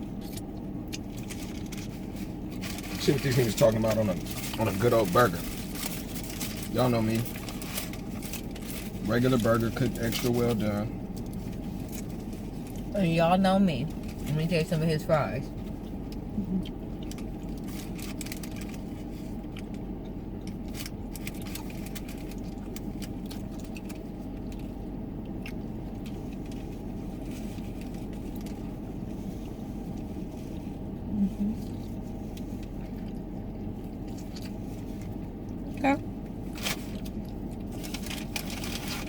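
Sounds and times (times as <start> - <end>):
van engine idling: 0.0 - 39.0.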